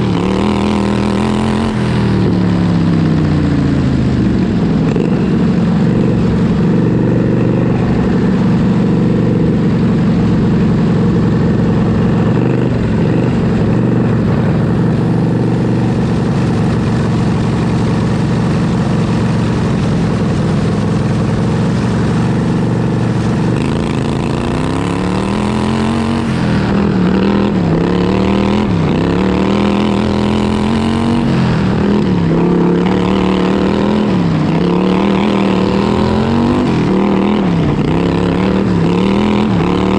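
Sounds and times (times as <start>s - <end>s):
lawn tractor engine revving high: 0.0s - 39.9s.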